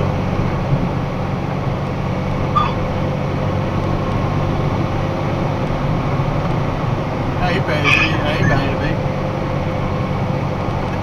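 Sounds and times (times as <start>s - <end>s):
road noise rush: 0.0s - 11.0s
truck engine hum: 0.0s - 11.0s.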